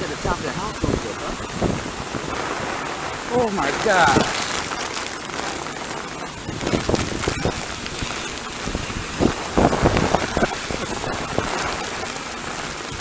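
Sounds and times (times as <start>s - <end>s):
heavy rain: 0.0s - 13.0s
wind buffeting microphone: 0.0s - 13.0s
wind gusting: 0.0s - 13.0s.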